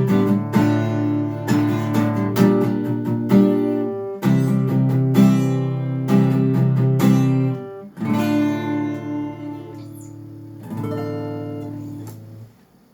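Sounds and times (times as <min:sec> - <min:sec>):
guitar chords strummed: 0:00.0 - 0:12.6.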